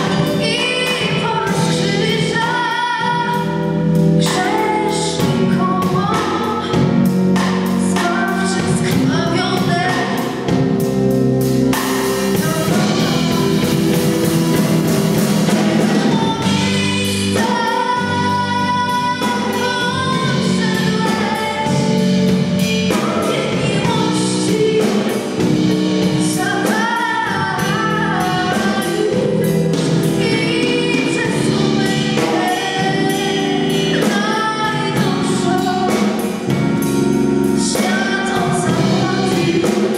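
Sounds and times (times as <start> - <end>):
woman singing into a microphone: 0.0 - 10.8, 12.3 - 14.2, 15.5 - 39.9
amplified live band: 0.0 - 39.9.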